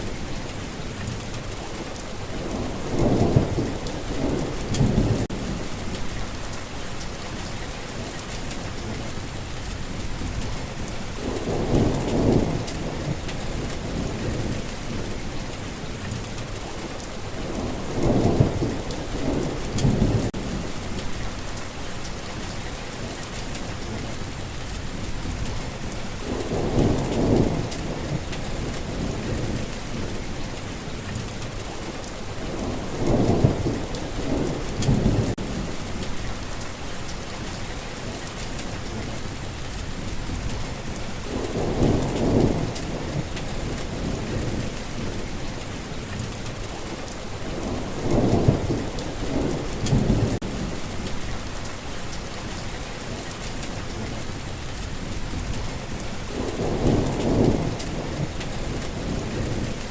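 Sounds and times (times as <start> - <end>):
steady rain falling: 0.0 - 59.9
thunder rumbling: 0.0 - 59.9.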